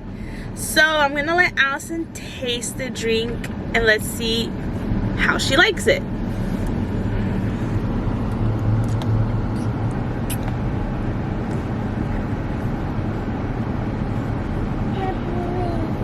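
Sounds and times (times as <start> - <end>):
car interior engine rumble: 0.0 - 16.0.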